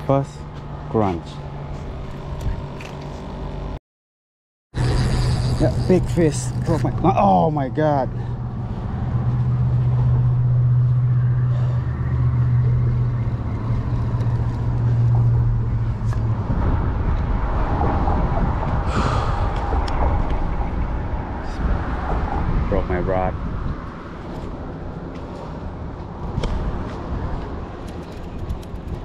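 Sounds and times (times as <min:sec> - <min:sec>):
vehicle engine humming: 0:00.0 - 0:03.8, 0:04.8 - 0:29.0.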